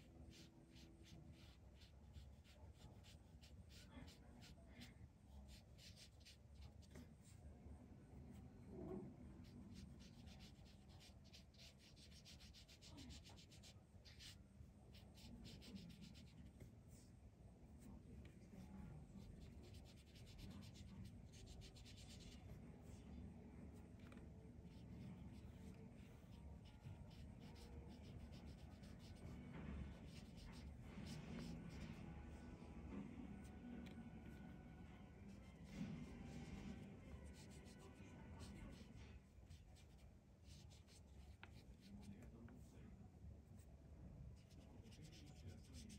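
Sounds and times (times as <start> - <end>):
paintbrush rubbing on paper: 0.0 - 7.4, 9.0 - 17.0, 17.8 - 23.0, 23.8 - 32.6, 35.2 - 42.7, 44.3 - 45.9.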